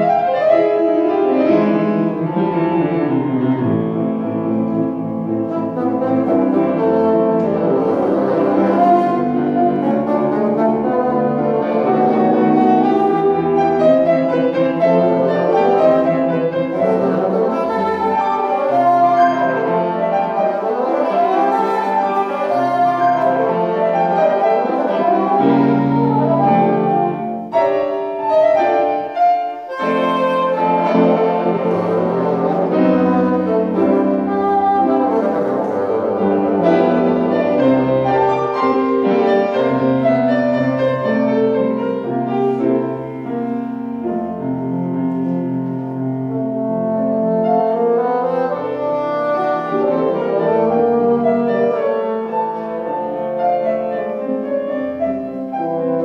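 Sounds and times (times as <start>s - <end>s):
bassoon melody: 0.0s - 56.0s
piano accompaniment: 0.0s - 56.0s.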